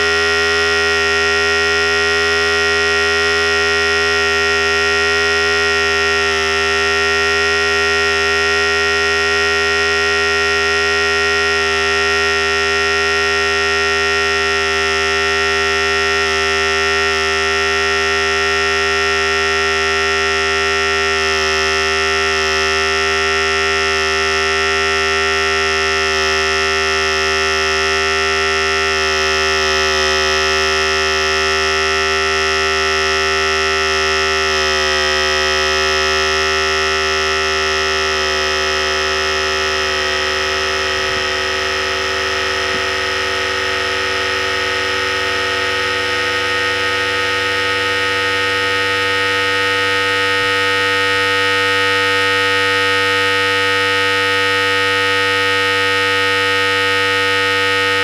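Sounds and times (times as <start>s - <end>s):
electric hair clipper buzzing: 0.0s - 58.0s.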